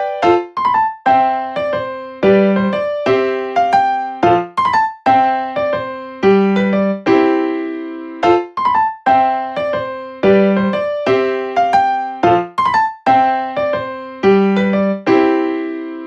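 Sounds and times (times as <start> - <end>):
light piano tune: 0.0 - 16.0.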